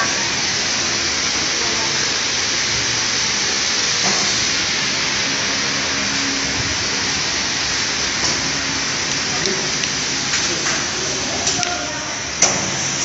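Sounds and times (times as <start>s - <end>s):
factory hiss: 0.0s - 13.0s.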